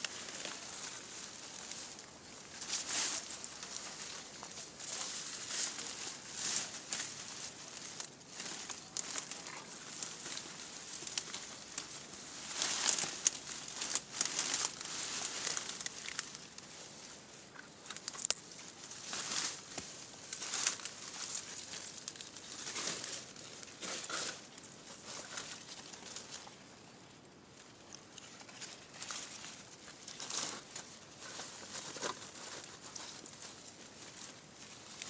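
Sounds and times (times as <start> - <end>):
leaves and brush rustling: 0.0 - 35.0.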